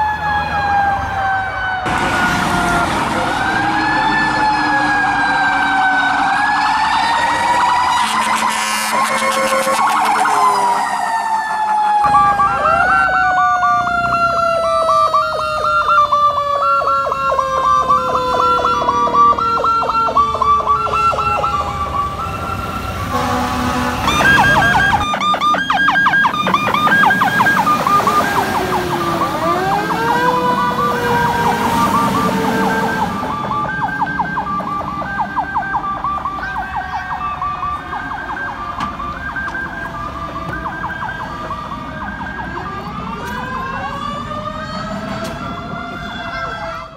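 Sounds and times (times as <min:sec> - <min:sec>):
electronic siren chirps: 0:00.0 - 0:45.1
mechanical siren wailing: 0:00.0 - 0:46.9.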